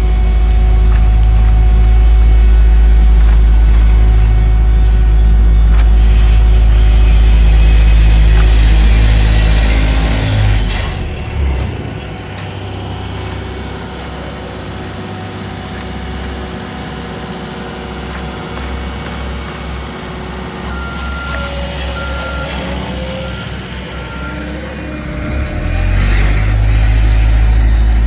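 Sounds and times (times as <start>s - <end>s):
heavy construction machinery running: 0.0s - 28.0s
loud engine: 0.0s - 28.0s
reversing alarm beeps: 0.0s - 28.0s.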